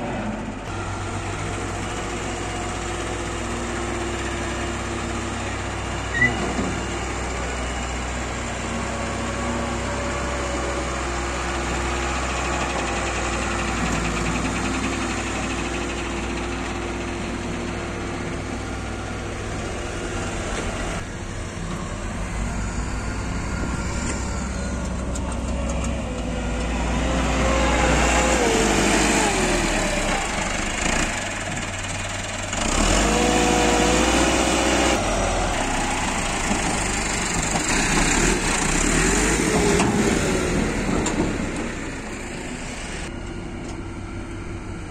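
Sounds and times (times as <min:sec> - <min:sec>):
diesel tractor engine running: 0:00.0 - 0:44.9.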